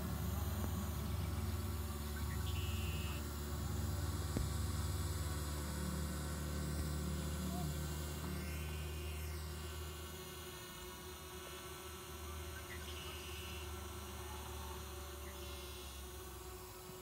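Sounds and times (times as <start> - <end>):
quadcopter propeller hum: 0.0 - 17.0.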